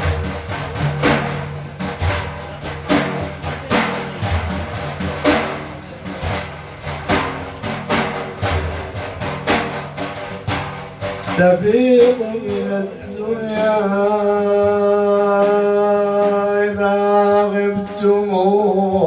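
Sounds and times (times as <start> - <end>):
drums beating steady rhythm: 0.0 - 19.0.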